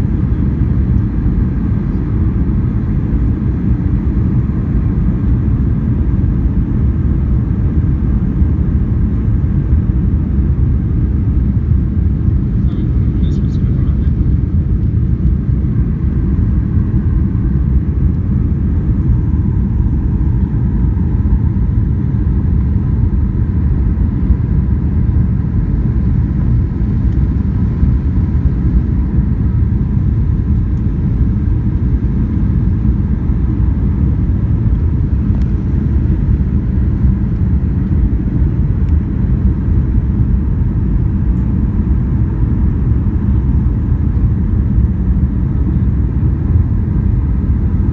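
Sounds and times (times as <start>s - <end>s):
airliner cabin engine rumble: 0.0s - 47.9s
faint steady whine: 0.0s - 47.9s.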